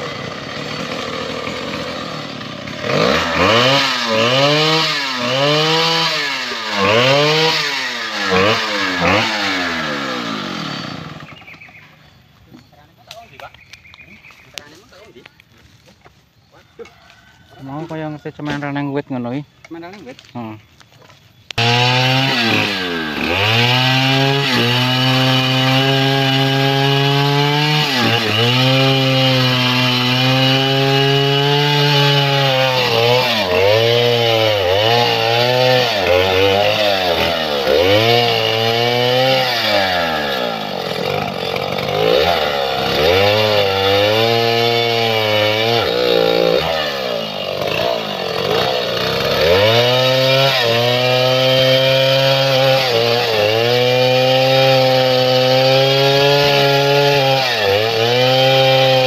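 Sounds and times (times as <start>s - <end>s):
chainsaw cutting log: 0.0s - 12.0s, 21.5s - 59.0s.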